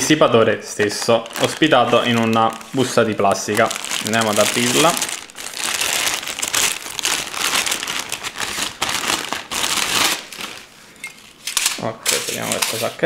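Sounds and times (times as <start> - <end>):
plastic bag crinkling: 0.7 - 13.0.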